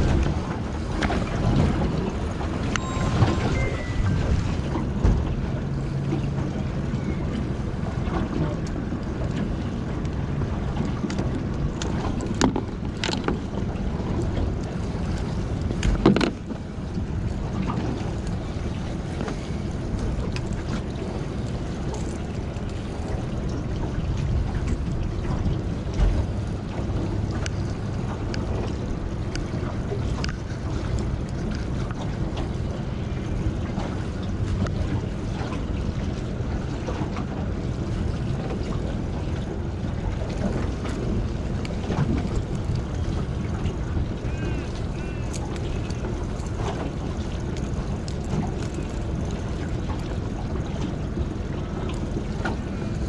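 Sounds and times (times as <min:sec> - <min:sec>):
water lapping at a boat: 0:00.0 - 0:53.0
wind on microphone: 0:00.0 - 0:53.0.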